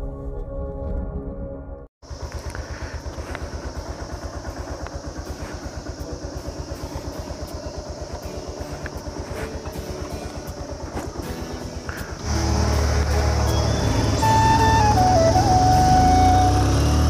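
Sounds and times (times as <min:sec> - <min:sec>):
motorcycle engine idling: 0:02.0 - 0:17.0
steady high hiss: 0:02.1 - 0:16.1
intro music: 0:03.2 - 0:17.0.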